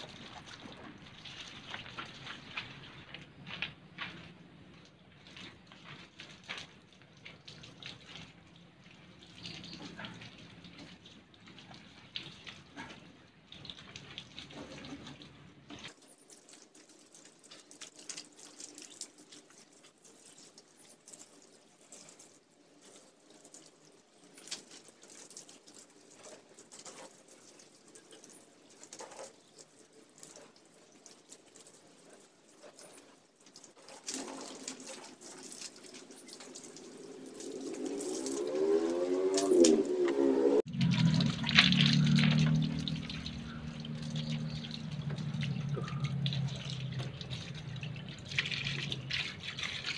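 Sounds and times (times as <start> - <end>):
hose water splashing on concrete: 0.0 - 49.9
wet rag rubbing and wringing: 0.0 - 49.9.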